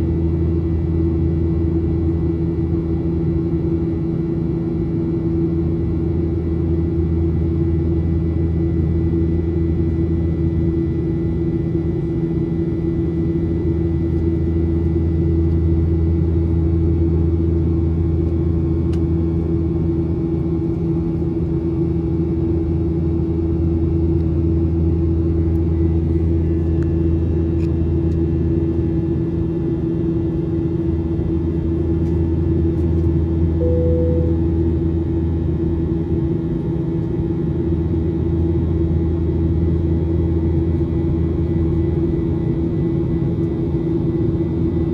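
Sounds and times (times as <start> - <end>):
airplane cabin drone: 0.0 - 44.9.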